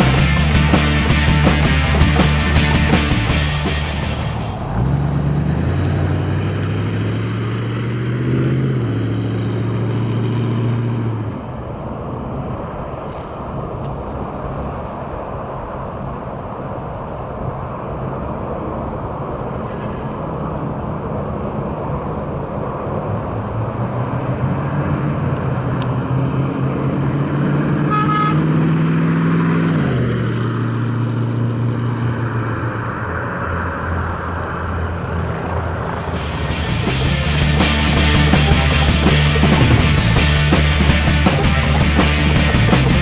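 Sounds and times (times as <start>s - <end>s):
car engine passing by: 0.0s - 43.0s.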